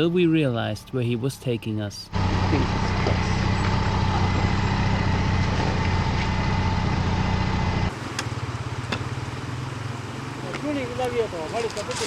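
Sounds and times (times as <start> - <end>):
vehicle engine idling: 0.4 - 12.0.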